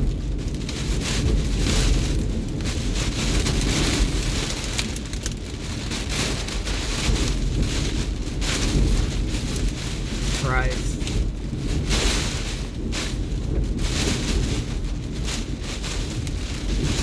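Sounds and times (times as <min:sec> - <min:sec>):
driving rain: 0:00.0 - 0:17.0
gusting wind: 0:00.0 - 0:17.0.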